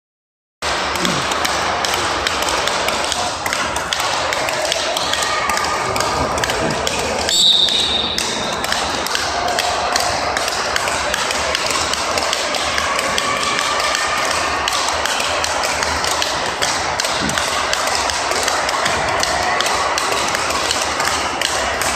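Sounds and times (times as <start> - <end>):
murmur of voices: 0.6 - 21.9
rackets striking tethered ball: 0.6 - 21.9.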